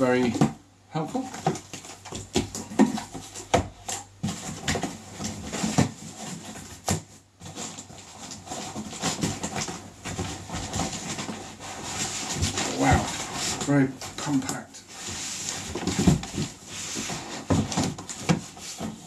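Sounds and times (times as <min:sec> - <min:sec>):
cardboard rustling and scraping: 0:00.0 - 0:19.0
cardboard knocking: 0:01.2 - 0:13.7, 0:15.5 - 0:19.0.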